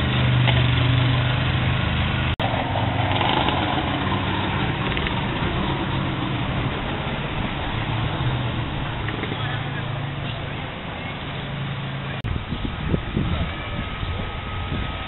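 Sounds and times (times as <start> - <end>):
engine idling: 0.0 - 15.0
outdoor street noise: 0.0 - 15.0.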